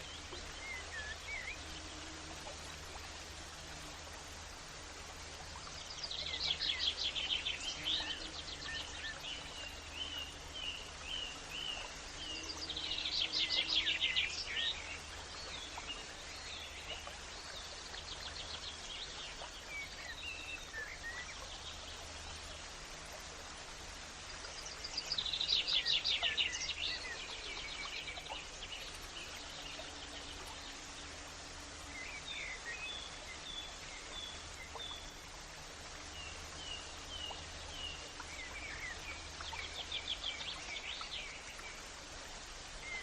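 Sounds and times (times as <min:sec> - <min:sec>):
songbirds trilling and chirping: 0:00.0 - 0:23.3, 0:23.9 - 0:43.0
background hiss: 0:00.0 - 0:43.0.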